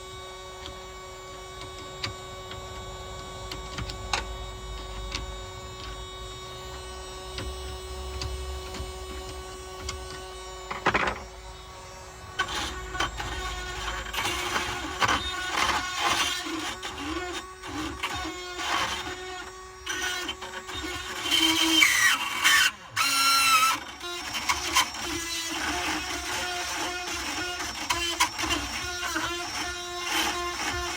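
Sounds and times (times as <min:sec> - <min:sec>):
power drill grinding metal: 0:00.0 - 0:30.9.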